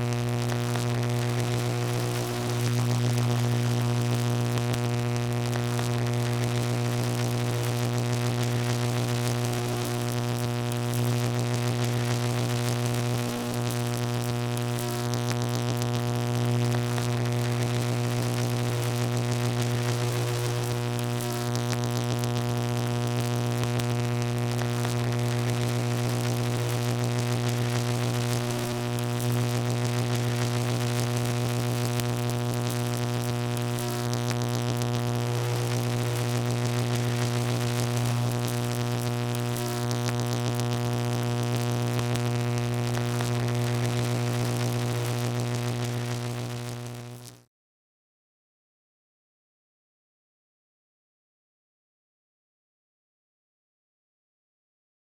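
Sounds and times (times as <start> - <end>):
electrical buzz: 0.0 - 47.4.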